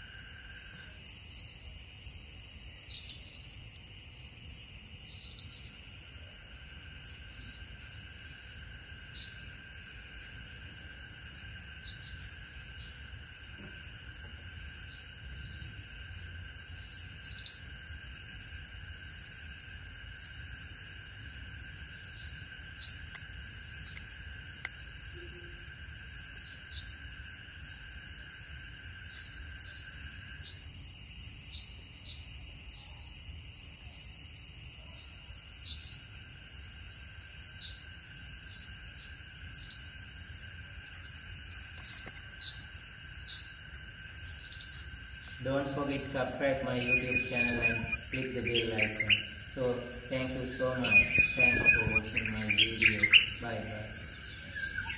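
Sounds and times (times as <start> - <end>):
insects pulsing trill: 0.0 - 54.9
low steady insect whine: 0.0 - 54.9
short insect chirps: 0.0 - 54.9.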